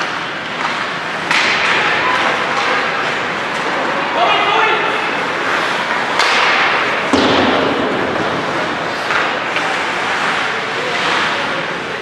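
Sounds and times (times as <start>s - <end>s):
indoor hall din: 1.2s - 12.0s.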